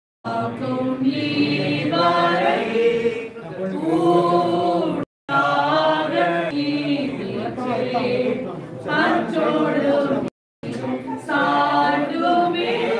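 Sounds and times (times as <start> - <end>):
voices singing together: 0.3 - 12.9.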